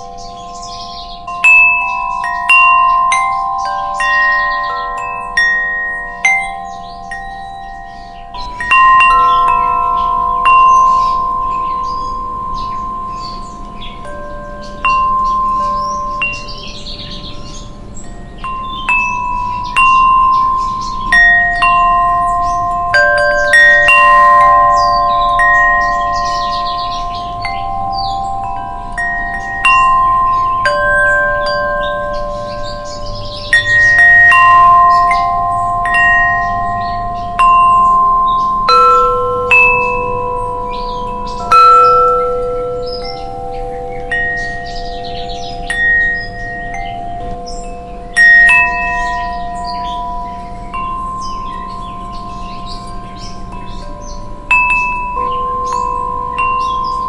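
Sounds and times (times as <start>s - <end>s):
wind chimes ringing: 0.0s - 57.0s.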